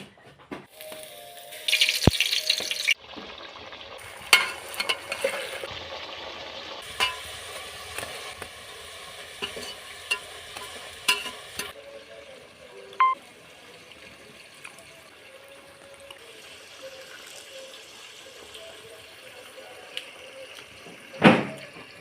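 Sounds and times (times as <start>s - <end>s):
chips sizzling in hot oil: 0.7s - 22.0s.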